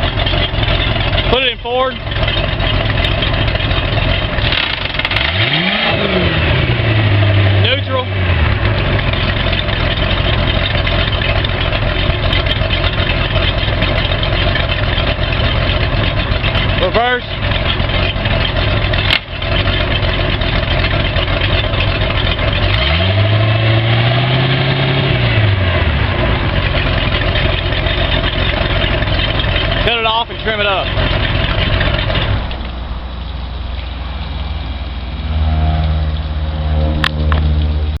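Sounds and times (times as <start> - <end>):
boat engine idling: 0.0 - 38.0.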